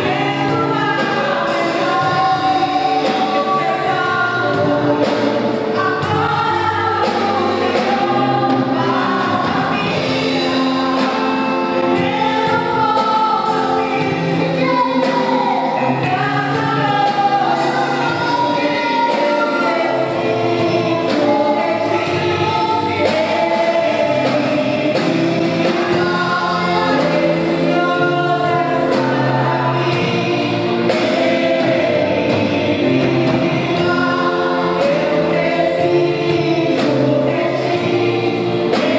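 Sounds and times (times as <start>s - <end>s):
group singing gospel song: 0.0s - 38.9s
instrumental backing: 0.0s - 38.9s.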